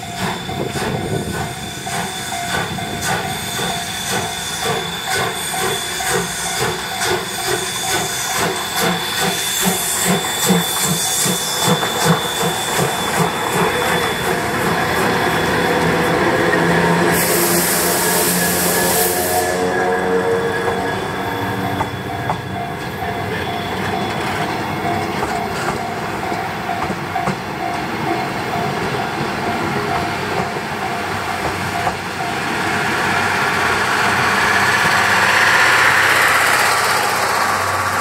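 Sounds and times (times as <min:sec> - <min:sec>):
level crossing warning bell: 0:00.0 - 0:17.2, 0:19.9 - 0:36.7
train wheels clicking over rail joints: 0:00.0 - 0:19.0, 0:20.6 - 0:38.0.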